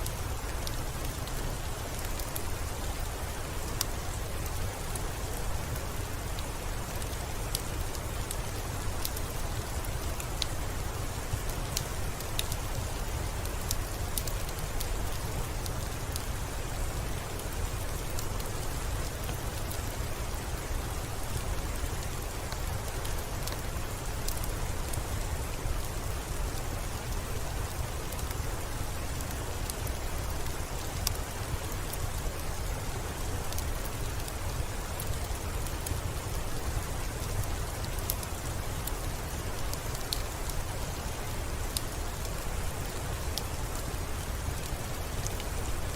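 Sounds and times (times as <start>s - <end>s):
rain falling: 0.0s - 45.9s
wood fire crackling: 0.0s - 45.9s.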